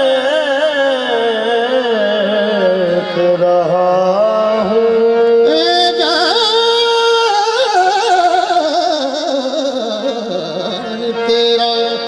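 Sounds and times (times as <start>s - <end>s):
man singing a wavering note: 0.0s - 12.0s
sustained harmonium: 0.0s - 12.0s.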